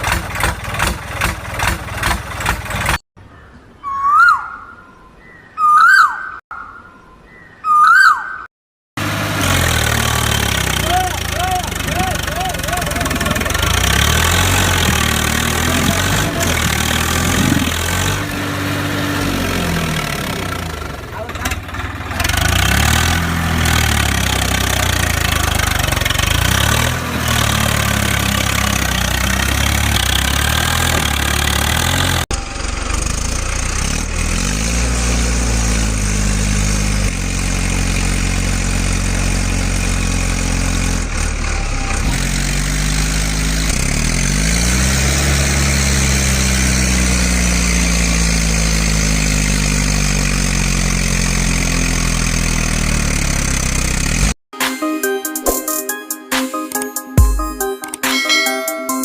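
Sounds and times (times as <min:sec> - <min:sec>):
tractor engine revving: 0:00.0 - 0:03.0, 0:09.0 - 0:54.4.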